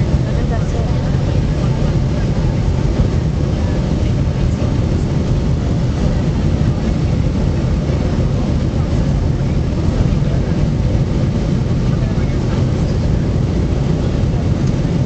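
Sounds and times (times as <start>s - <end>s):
airliner cabin jet engine noise: 0.0s - 15.0s.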